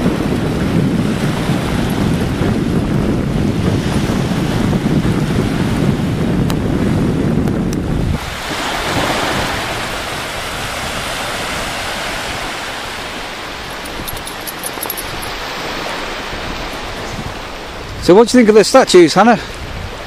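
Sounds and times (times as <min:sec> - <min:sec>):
wind on microphone: 0:00.0 - 0:18.4, 0:19.4 - 0:20.0
waves breaking on shore: 0:00.0 - 0:20.0.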